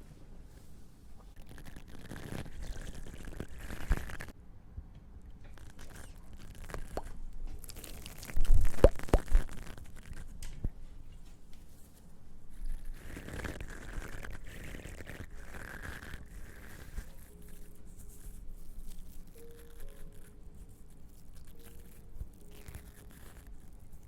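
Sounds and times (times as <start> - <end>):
soft scratching and brushing: 0.0 - 4.4, 5.5 - 24.0
crinkling against microphone: 1.2 - 4.4, 5.4 - 24.0.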